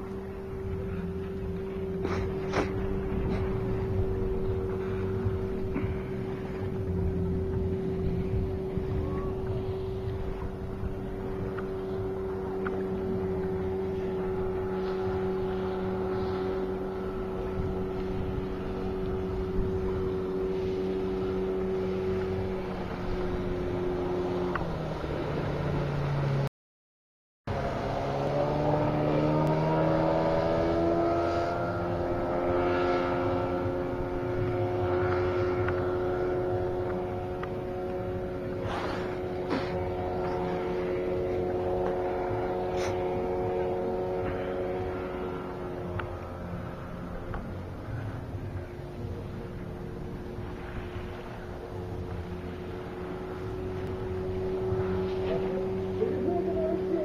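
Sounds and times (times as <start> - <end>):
outboard motor running: 0.0 - 26.5, 27.5 - 57.0.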